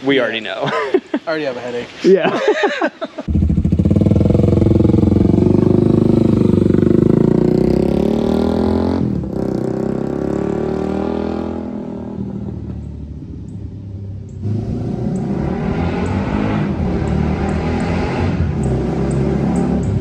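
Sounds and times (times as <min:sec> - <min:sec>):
motorcycle engine accelerating: 0:03.3 - 0:20.0.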